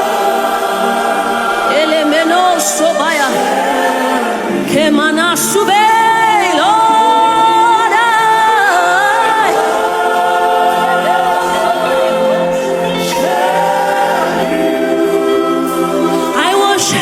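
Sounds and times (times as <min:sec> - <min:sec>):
gospel singing: 0:00.0 - 0:17.0.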